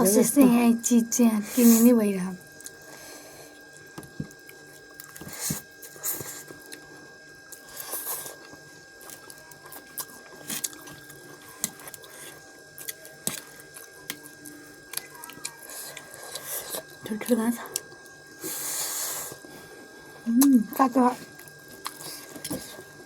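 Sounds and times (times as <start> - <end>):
wet chewing of noodles: 2.4 - 20.6, 21.2 - 23.0.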